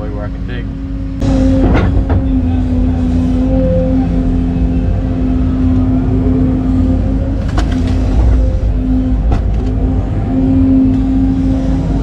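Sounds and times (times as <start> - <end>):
excavator diesel engine rumble: 0.0 - 12.0
hydraulic whine: 0.7 - 12.0.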